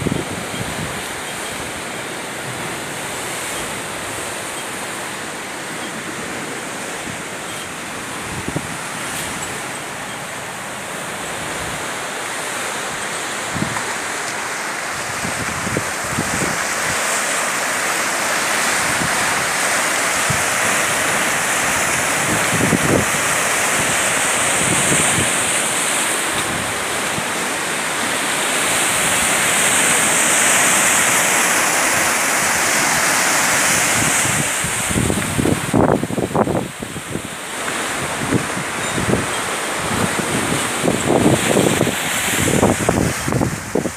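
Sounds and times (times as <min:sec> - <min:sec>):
surf washing over rocks: 0:00.0 - 0:43.9.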